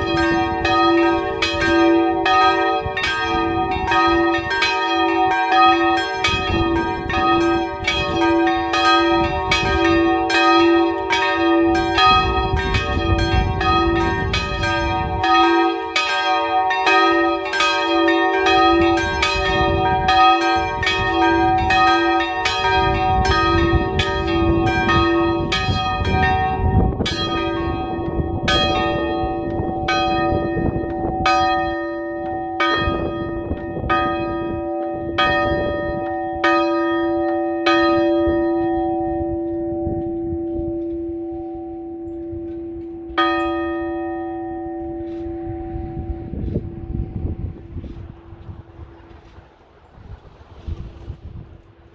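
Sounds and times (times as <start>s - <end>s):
church bells ringing: 0.0s - 50.4s.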